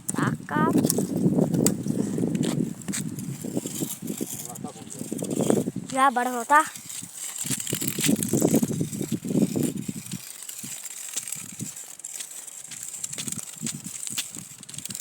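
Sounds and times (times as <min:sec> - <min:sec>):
twigs crackling: 0:00.0 - 0:15.0
footsteps on dry leaves: 0:00.8 - 0:15.0.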